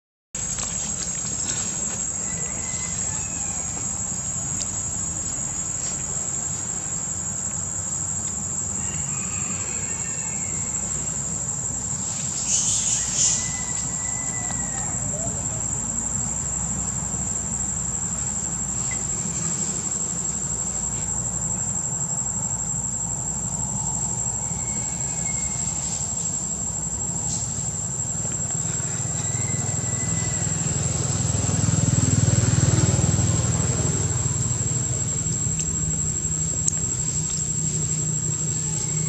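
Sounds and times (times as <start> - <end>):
high-pitched insect drone: 0.4 - 39.0.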